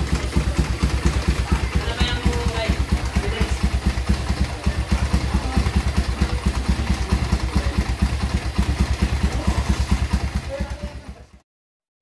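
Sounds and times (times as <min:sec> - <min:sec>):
motorcycle engine idling: 0:00.0 - 0:11.4.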